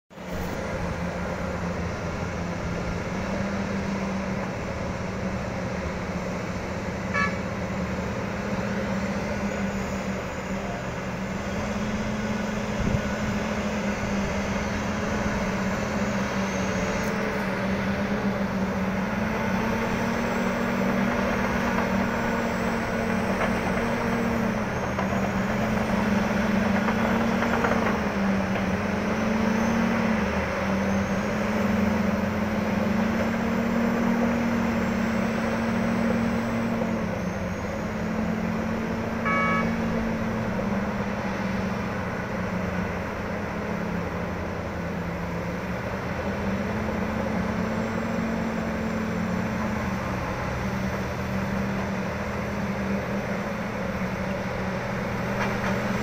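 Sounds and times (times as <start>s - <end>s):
heavy machinery engine drone: 0.1s - 56.0s.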